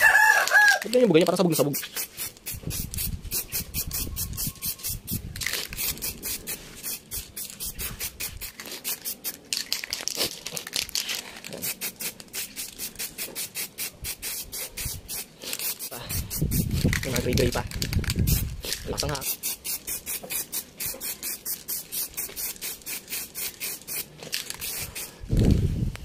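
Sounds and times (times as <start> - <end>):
spray can hissing in spurts: 0.0 - 25.6.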